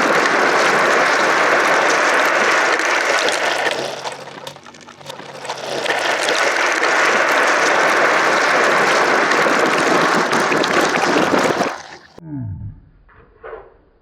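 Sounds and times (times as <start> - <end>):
marbles rolling and clattering: 0.0 - 12.2.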